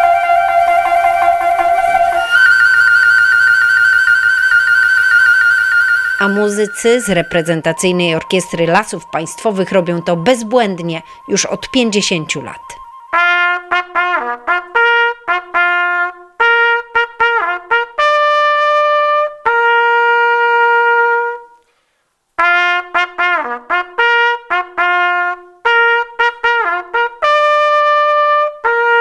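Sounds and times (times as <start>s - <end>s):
solo trumpet playing: 0.0s - 21.7s, 22.4s - 29.0s.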